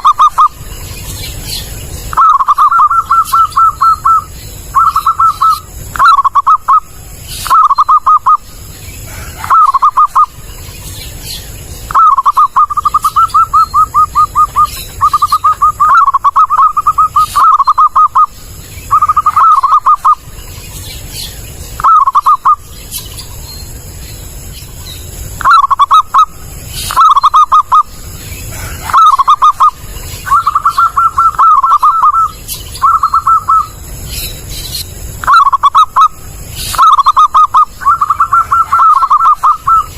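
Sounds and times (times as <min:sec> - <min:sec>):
dove cooing: 0:00.0 - 0:10.4, 0:11.9 - 0:20.3, 0:21.8 - 0:22.6, 0:25.4 - 0:33.8, 0:35.2 - 0:39.9.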